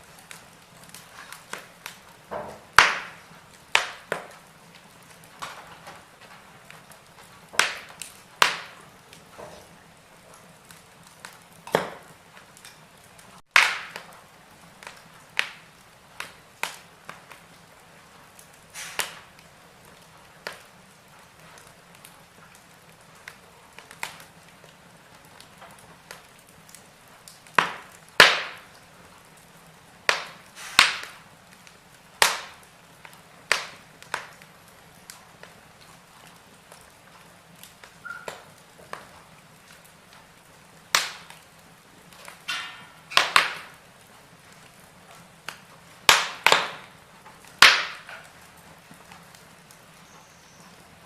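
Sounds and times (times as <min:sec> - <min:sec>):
faint steady hiss: 0:00.0 - 0:51.0
fire pops and snaps: 0:00.0 - 0:51.0
wood fire crackling: 0:00.0 - 0:51.0.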